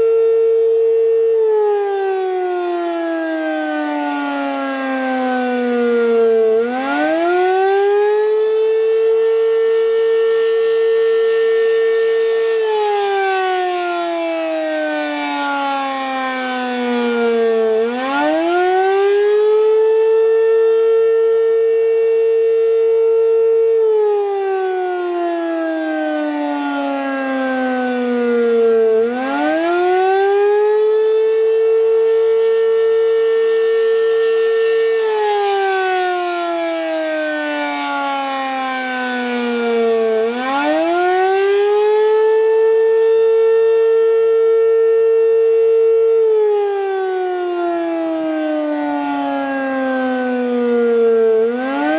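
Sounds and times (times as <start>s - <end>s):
warning siren wailing: 0.0s - 51.9s.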